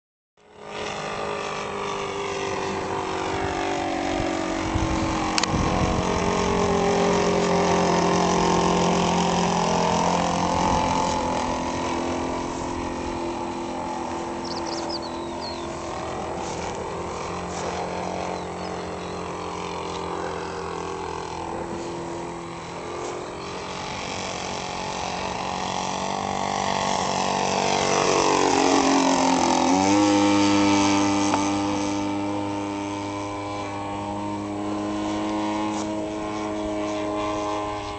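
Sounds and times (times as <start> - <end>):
model plane engine in flight: 0.4 - 37.9.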